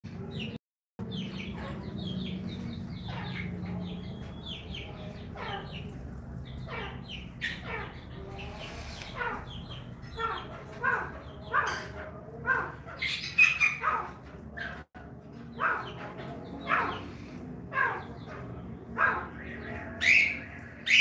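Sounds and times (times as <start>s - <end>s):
chickens calling: 0.1s - 21.0s.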